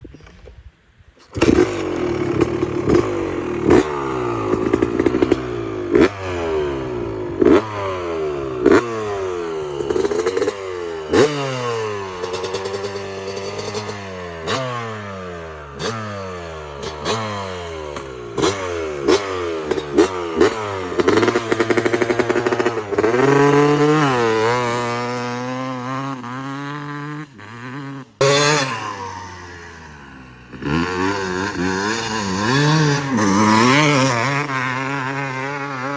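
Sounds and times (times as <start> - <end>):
dirt bike engine revving: 1.2 - 35.9.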